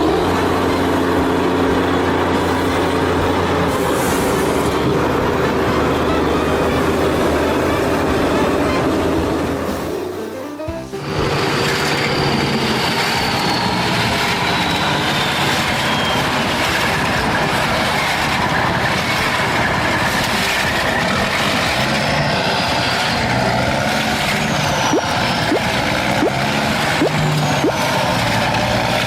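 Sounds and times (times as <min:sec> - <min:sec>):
high squealing tones: 0:00.0 - 0:28.9
heavy machine running: 0:00.0 - 0:29.0.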